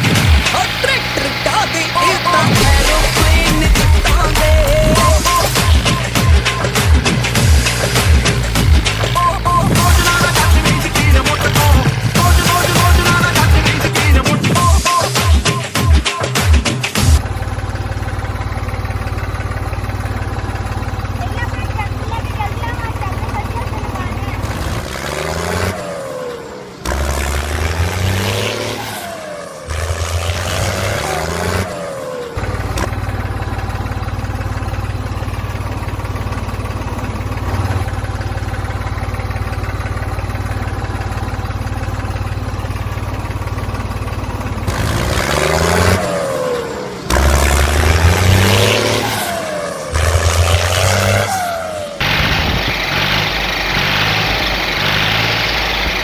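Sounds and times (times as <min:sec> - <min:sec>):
small tractor engines running: 0:00.0 - 0:56.0.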